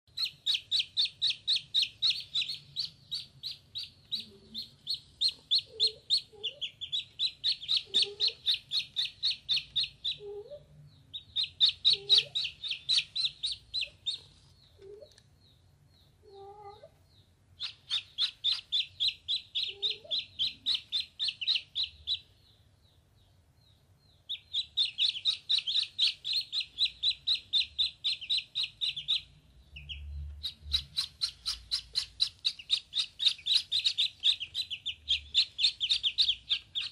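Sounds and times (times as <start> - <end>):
ducklings peeping: 0.1 - 36.9.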